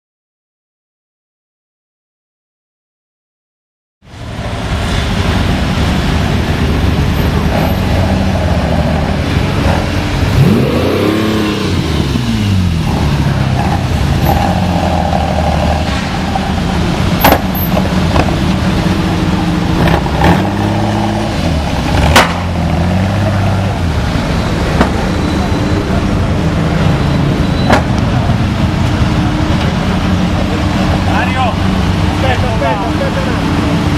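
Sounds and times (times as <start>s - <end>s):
sports car engine revving: 4.7s - 33.9s.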